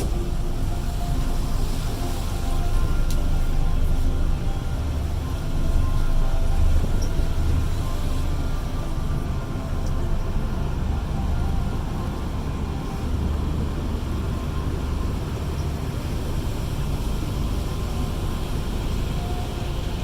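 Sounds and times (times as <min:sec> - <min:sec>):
boat engine low rumble: 0:00.0 - 0:20.0.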